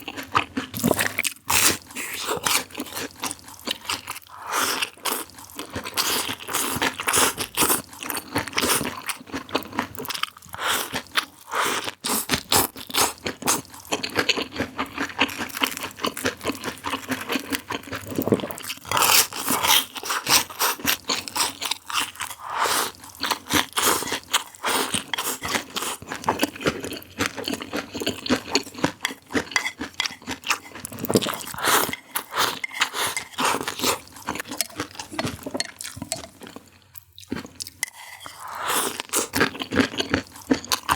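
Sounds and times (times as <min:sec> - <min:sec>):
chewing crispy food: 0:00.0 - 0:40.9.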